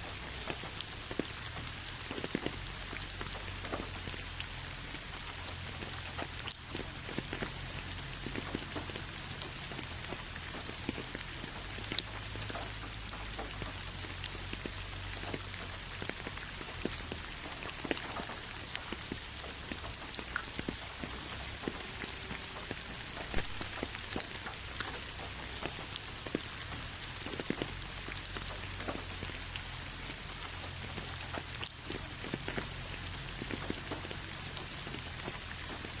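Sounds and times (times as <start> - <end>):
raindrops ticking on surface: 0.0 - 36.0
steady rain hiss: 0.0 - 36.0.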